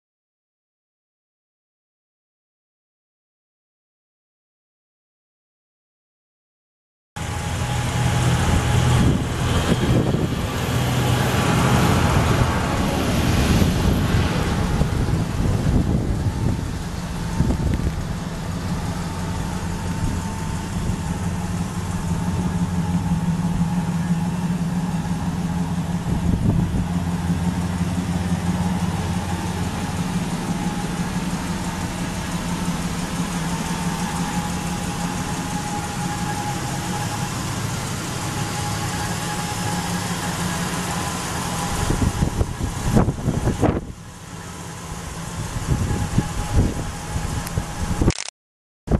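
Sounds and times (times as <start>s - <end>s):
truck engine idling: 7.2s - 48.1s.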